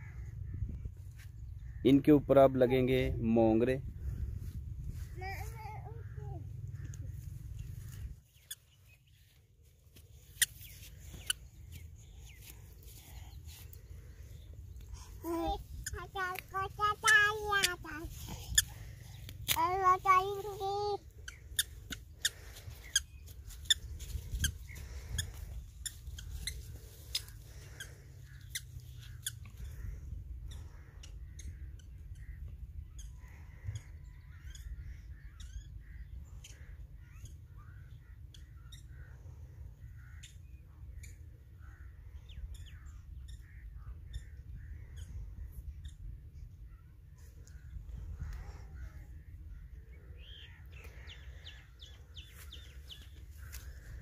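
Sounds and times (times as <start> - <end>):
birds calling: 3.9 - 54.0.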